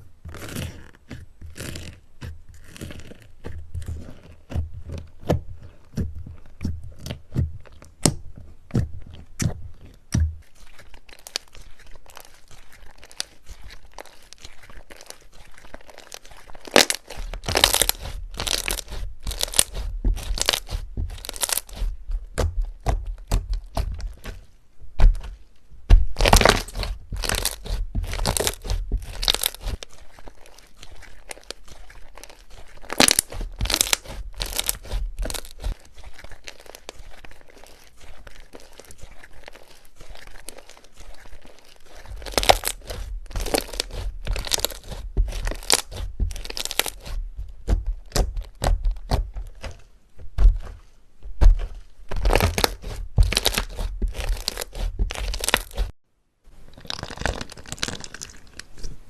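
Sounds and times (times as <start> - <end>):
crunchy slime crackling: 0.0 - 56.0, 56.6 - 59.0.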